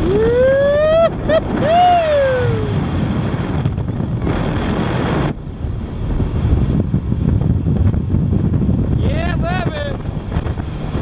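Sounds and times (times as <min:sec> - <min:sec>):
boat engine rumble: 0:00.0 - 0:11.0
water rushing: 0:00.0 - 0:11.0
wind buffeting microphone: 0:00.0 - 0:11.0.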